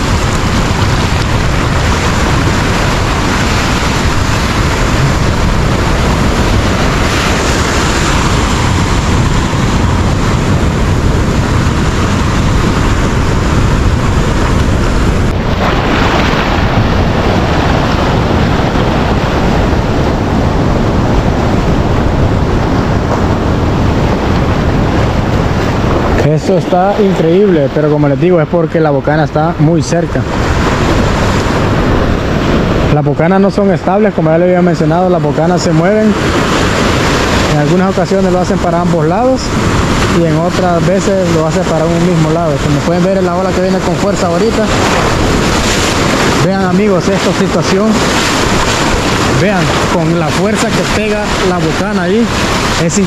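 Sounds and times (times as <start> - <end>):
ocean surf washing against wall: 0.0 - 53.0
wind buffeting microphone: 0.0 - 53.0.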